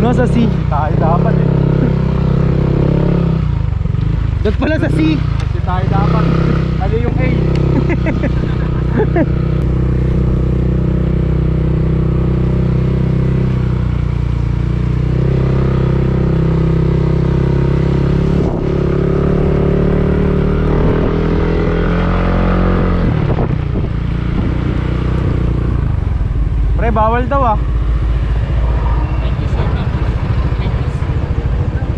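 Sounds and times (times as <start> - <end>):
motorcycle engine running: 0.0 - 31.9
road and wind noise: 0.0 - 31.9.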